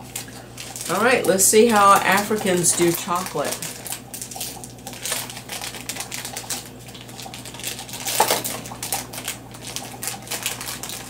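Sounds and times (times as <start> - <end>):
plastic snack packet crinkling: 0.0 - 11.0.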